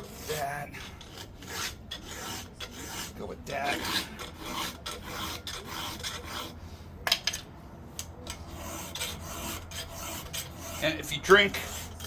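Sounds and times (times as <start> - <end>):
file rasping on chainsaw chain: 0.0 - 6.6, 8.3 - 12.0.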